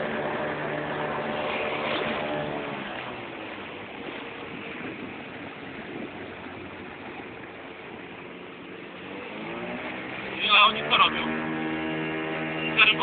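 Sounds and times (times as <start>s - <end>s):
boat motor running: 0.0s - 13.0s
water rushing along hull: 0.0s - 13.0s.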